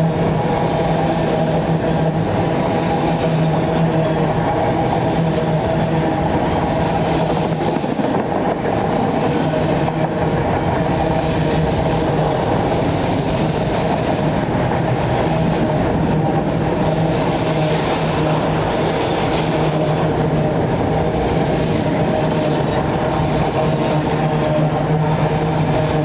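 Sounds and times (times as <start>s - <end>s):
steel wheels rumbling on rail: 0.0s - 26.0s.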